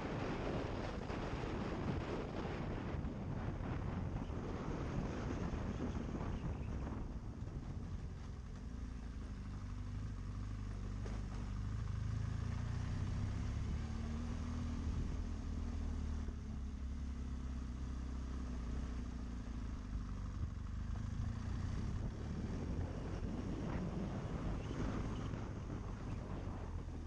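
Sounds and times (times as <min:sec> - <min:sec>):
motorcycle engine at low revs: 0:00.0 - 0:27.0.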